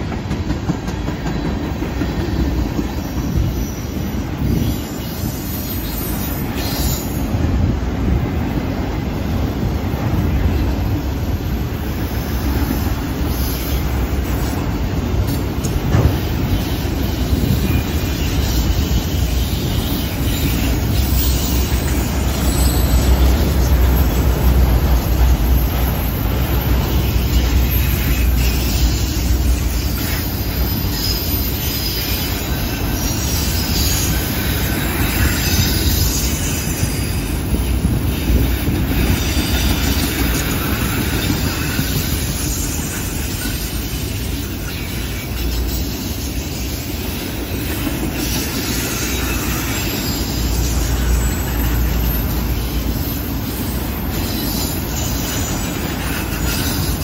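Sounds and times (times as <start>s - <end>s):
train wheels rumbling on rails: 0.0s - 57.0s
high wheel squeal: 1.2s - 7.7s, 9.2s - 57.0s.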